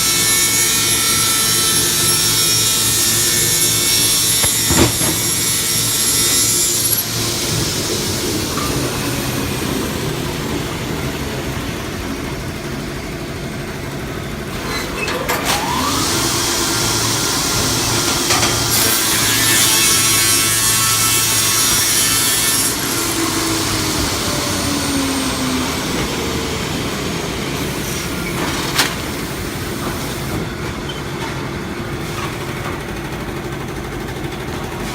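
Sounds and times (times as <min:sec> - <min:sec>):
engine-driven saw cutting wood: 0:00.0 - 0:30.5.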